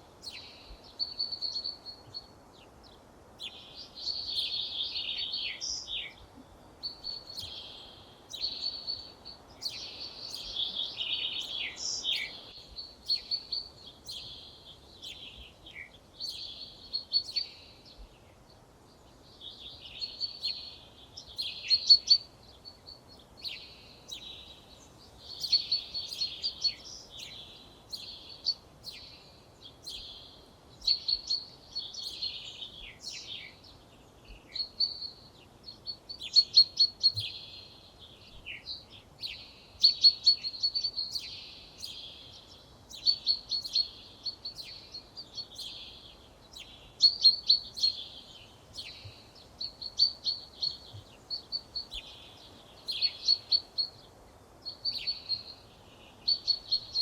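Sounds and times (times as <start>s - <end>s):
faint outdoor background noise: 0.0s - 57.0s
songbird singing: 0.0s - 57.0s.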